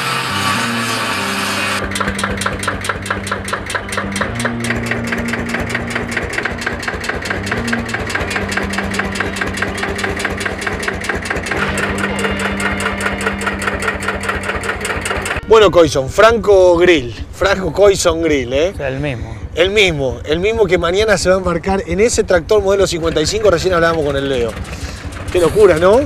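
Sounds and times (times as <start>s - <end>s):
tractor engine chugging: 1.7s - 26.0s.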